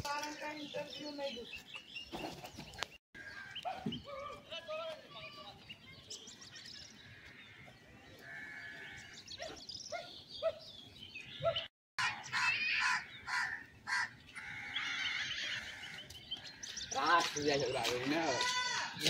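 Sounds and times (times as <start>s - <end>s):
birds calling: 0.0s - 19.0s
birds chirping: 0.0s - 19.0s.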